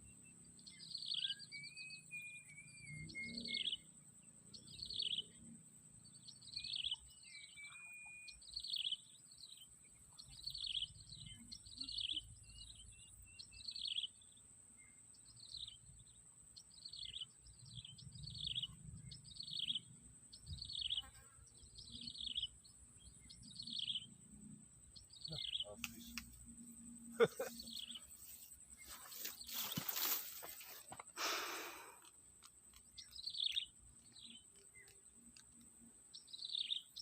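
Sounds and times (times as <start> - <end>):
bird chirping: 0.0 - 31.0, 31.6 - 37.0.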